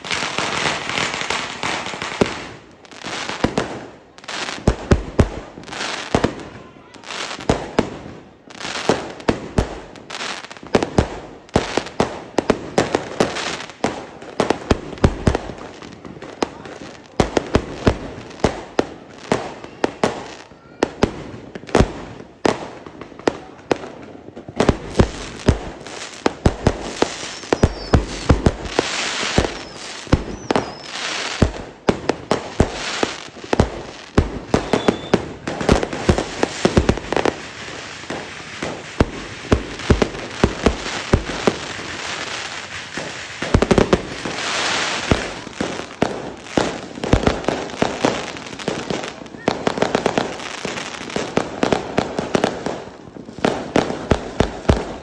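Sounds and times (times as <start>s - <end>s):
fireworks crackling: 0.0s - 55.0s
fireworks banging: 10.6s - 55.0s.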